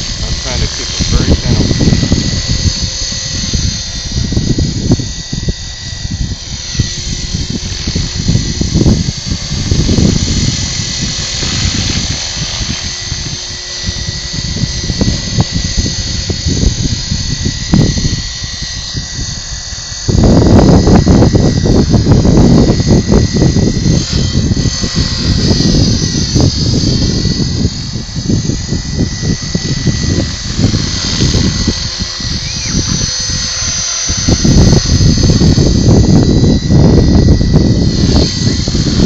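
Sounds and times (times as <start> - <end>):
model airplane motor whine: 0.0 - 39.0
wind buffeting microphone: 0.0 - 39.0.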